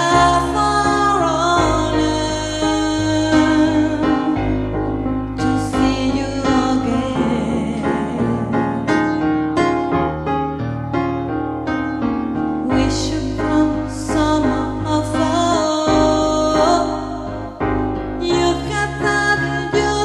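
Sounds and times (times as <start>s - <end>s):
bass line: 0.0s - 20.0s
piano notes and chords: 0.0s - 20.0s.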